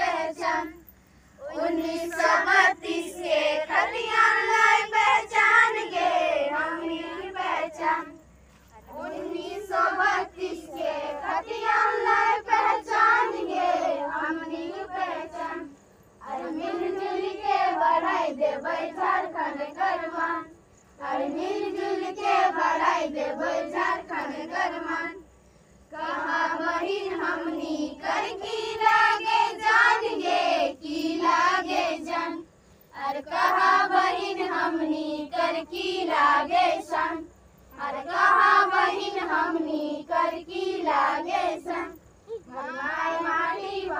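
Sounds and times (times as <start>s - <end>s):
girls and children singing: 0.0s - 43.9s.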